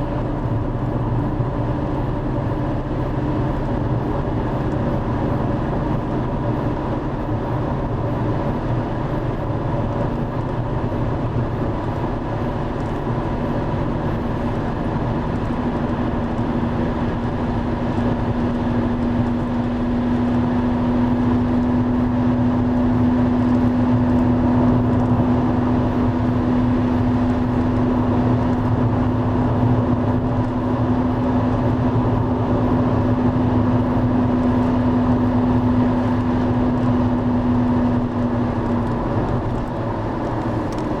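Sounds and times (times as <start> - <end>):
mechanical engine hum: 0.0 - 41.0.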